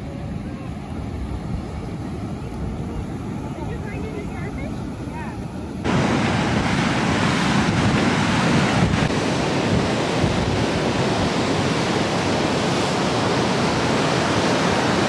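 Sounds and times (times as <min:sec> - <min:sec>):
ocean surf rushing: 0:00.0 - 0:15.0
wind buffeting microphone: 0:00.0 - 0:15.0.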